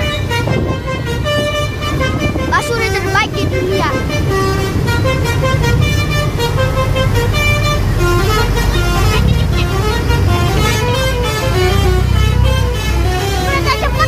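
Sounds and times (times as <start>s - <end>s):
bus engine rumble: 0.0s - 14.0s
musical air horn melody: 0.0s - 14.0s.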